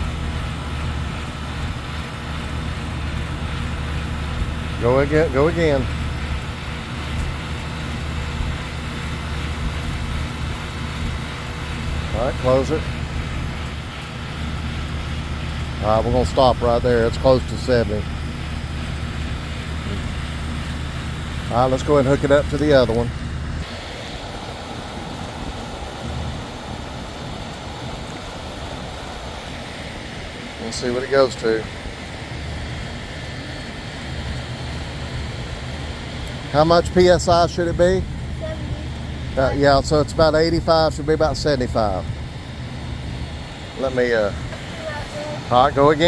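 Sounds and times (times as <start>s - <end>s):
air conditioning unit humming: 0.0s - 46.0s.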